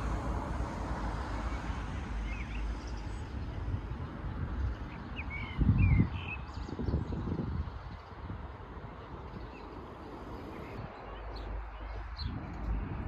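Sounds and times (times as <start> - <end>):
wind buffeting microphone: 0.0 - 13.0
small birds chirping: 1.4 - 8.2, 9.2 - 13.0.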